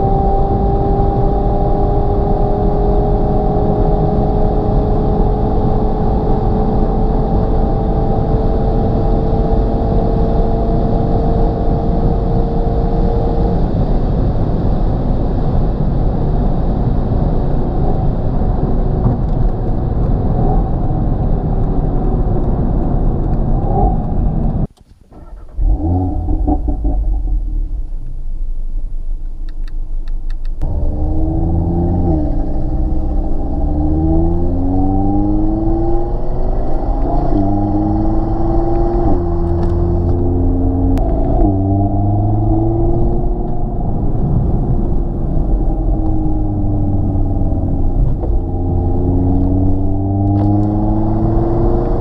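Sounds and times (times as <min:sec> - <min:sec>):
car engine and exhaust at speed: 0:00.0 - 0:52.0
road rumble: 0:00.0 - 0:52.0.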